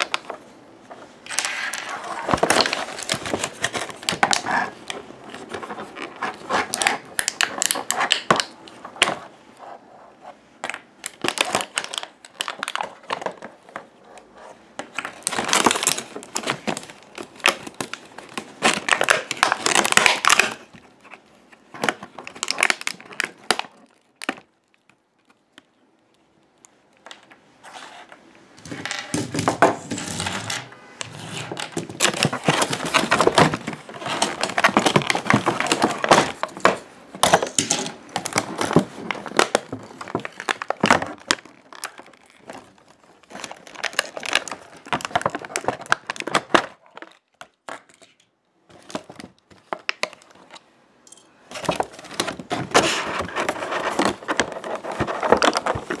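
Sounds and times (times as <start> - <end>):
plastic packaging crinkling: 1.2 - 9.3, 10.6 - 27.8, 31.2 - 48.1, 51.5 - 56.0.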